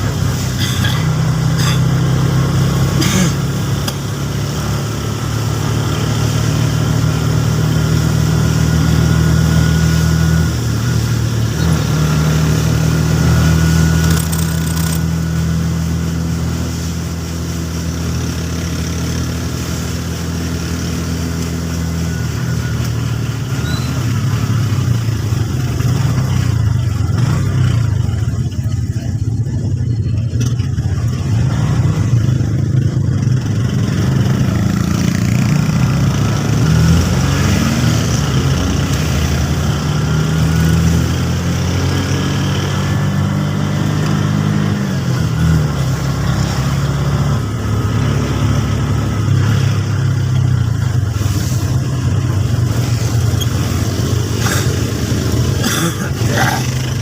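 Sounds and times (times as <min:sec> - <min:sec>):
vehicle engine humming: 0:00.0 - 0:57.0.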